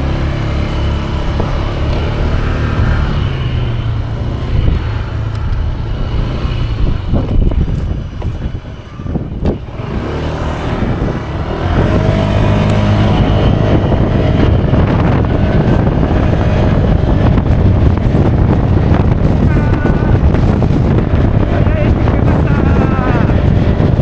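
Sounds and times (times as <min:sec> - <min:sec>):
road and wind rumble: 0:00.0 - 0:24.0
scooter engine running: 0:00.0 - 0:24.0.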